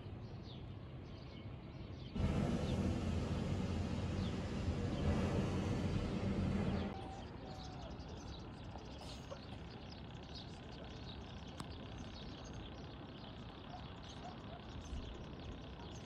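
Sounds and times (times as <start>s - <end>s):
low background hum: 0.0s - 16.0s
small birds chirping: 0.0s - 16.0s.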